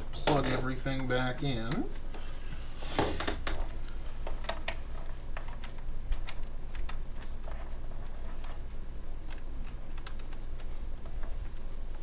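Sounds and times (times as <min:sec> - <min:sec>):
cables and plugs clicking: 0:00.0 - 0:02.1, 0:03.2 - 0:08.6, 0:09.2 - 0:12.0
steady low hum: 0:00.0 - 0:12.0.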